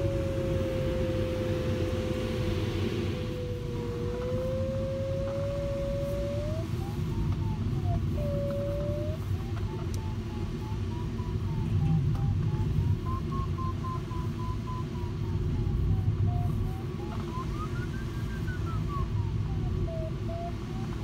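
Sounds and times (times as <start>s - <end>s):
cockpit airflow rush: 0.0s - 20.8s
variometer beeping pulses: 0.0s - 21.0s.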